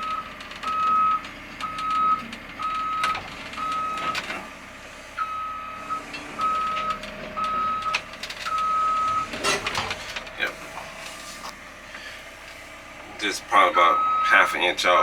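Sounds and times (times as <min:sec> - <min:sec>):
excavator travel alarm beeping: 0:00.0 - 0:11.6, 0:13.2 - 0:15.0
excavator engine running: 0:00.0 - 0:15.0.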